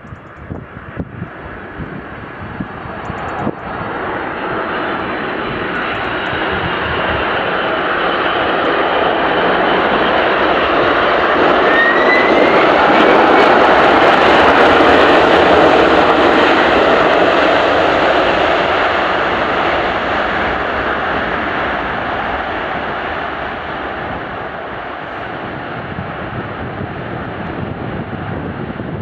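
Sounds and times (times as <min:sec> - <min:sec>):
jet airliner engines passing: 0:00.0 - 0:29.0.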